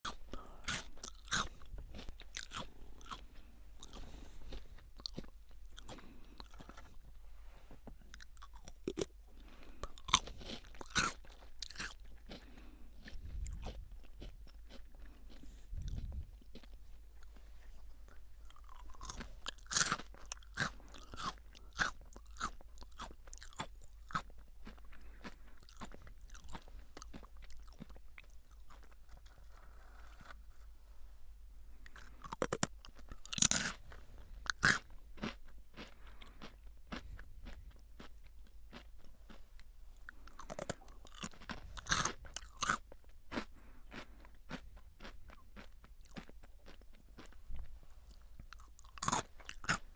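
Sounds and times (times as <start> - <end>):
crunching and chewing potato sticks: 0.0 - 30.7, 31.4 - 49.9.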